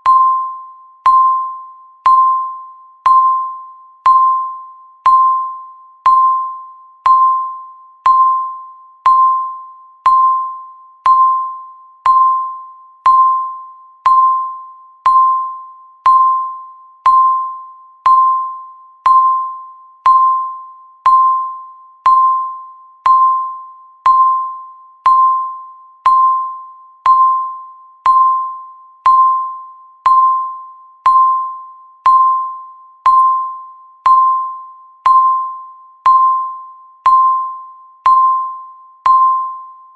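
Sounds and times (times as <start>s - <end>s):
timer ping ticking: 0.0s - 39.8s.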